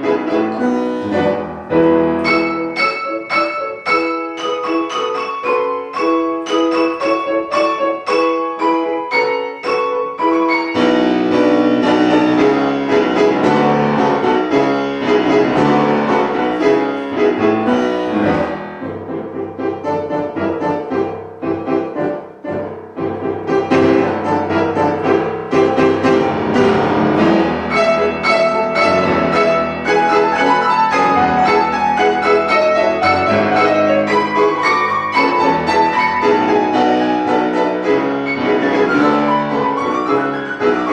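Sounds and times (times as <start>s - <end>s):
classical piano music: 0.0s - 40.9s.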